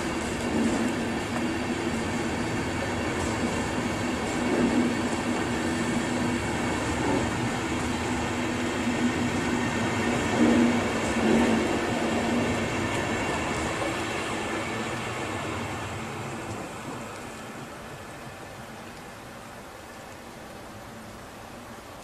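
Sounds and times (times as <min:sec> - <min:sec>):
train coaches rolling past: 0:00.0 - 0:19.6.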